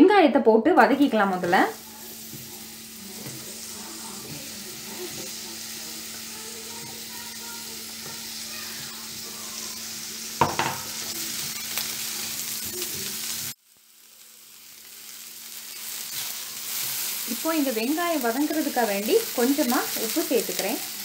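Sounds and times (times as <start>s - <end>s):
onions sizzling in a frying pan: 0.8s - 21.0s
spatula stirring in a pan: 1.4s - 13.5s, 15.5s - 21.0s.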